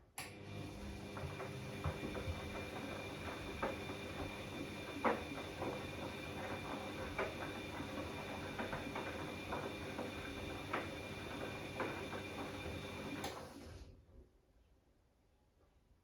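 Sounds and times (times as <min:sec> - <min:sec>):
washing machine whine: 0:00.2 - 0:14.0.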